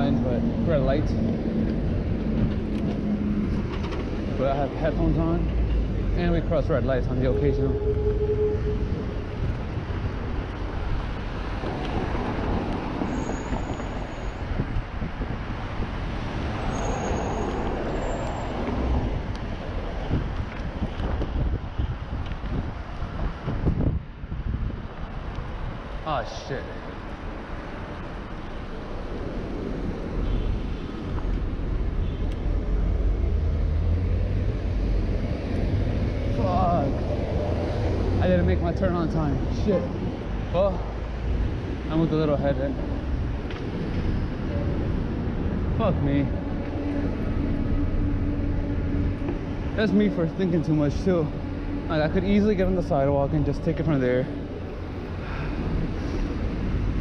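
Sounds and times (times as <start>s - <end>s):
city traffic noise: 0.0s - 57.0s
wind rumbling on microphone: 0.0s - 57.0s.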